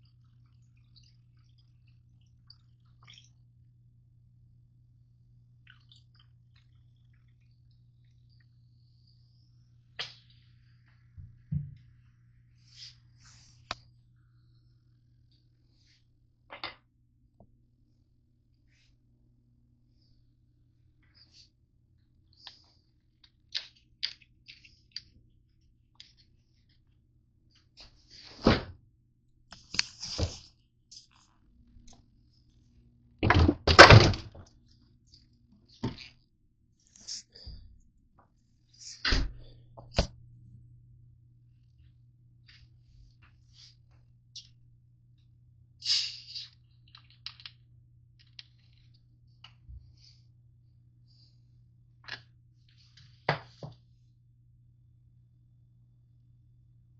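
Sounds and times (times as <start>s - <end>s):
steady low hum: 0.0s - 33.3s, 34.3s - 56.9s.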